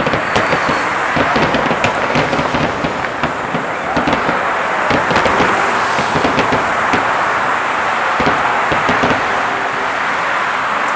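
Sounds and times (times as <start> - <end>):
fireworks crackles and pops: 0.0 - 9.8
freeway traffic rush: 0.0 - 10.9.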